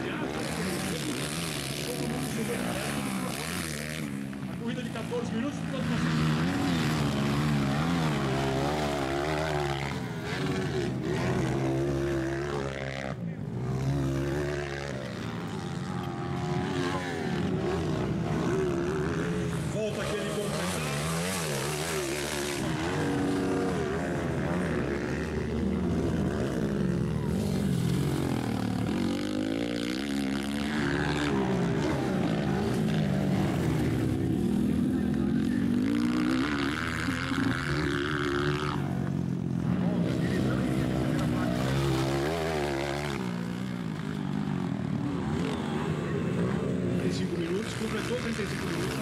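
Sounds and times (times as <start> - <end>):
motocross bike engines revving: 0.0 - 49.0.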